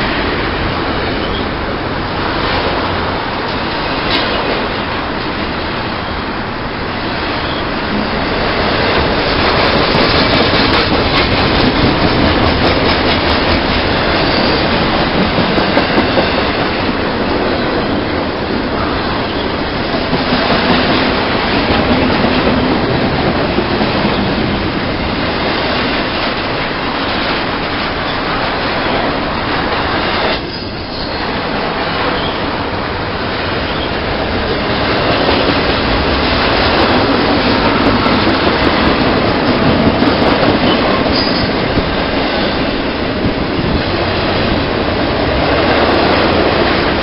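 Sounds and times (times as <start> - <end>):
train passing: 0.0 - 47.0
train wheels clicking on rails: 0.0 - 47.0.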